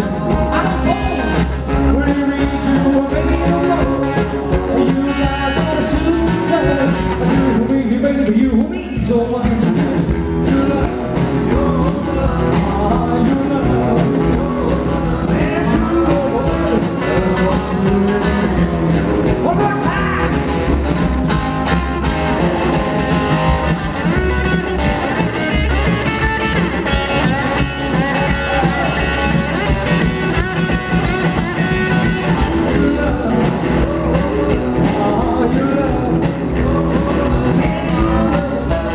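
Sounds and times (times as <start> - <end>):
person singing lead vocal: 0.0 - 24.8, 26.8 - 38.9
electric guitar: 0.0 - 38.9
upright double bass: 0.0 - 38.9.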